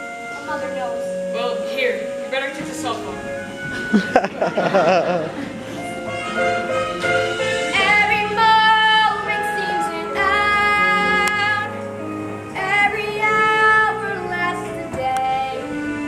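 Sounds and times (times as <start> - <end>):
musical accompaniment: 0.0 - 16.0.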